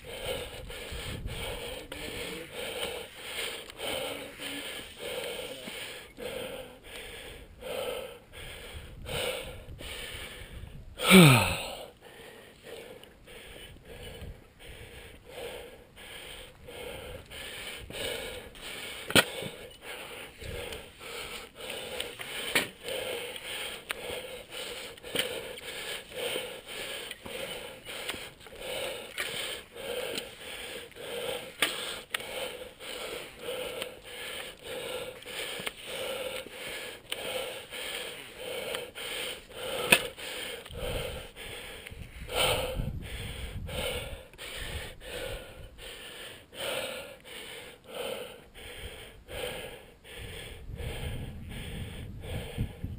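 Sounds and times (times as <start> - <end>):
heavy rapid breathing: 0.0 - 52.9.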